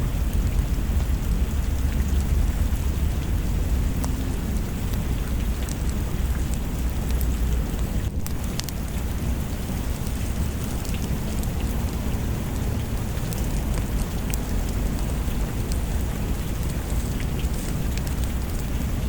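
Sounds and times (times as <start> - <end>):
deep low rumble: 0.0 - 19.0
steady rain: 0.0 - 19.0.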